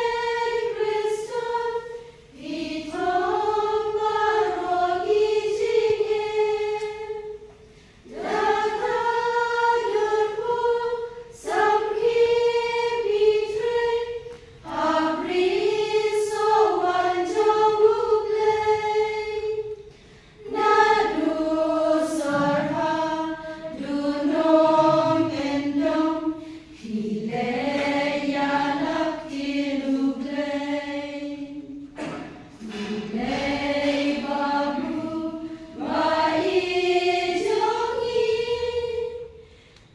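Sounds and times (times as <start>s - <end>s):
church choir singing: 0.0s - 39.7s.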